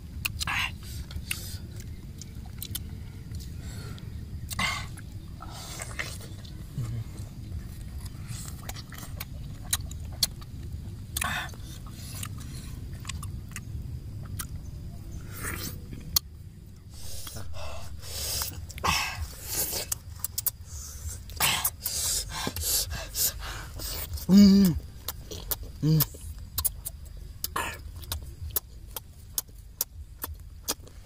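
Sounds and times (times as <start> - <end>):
people chewing fruit: 0.0 - 31.0
steady low rumble: 0.0 - 31.0
wet crunches and mouth sounds: 0.1 - 31.0.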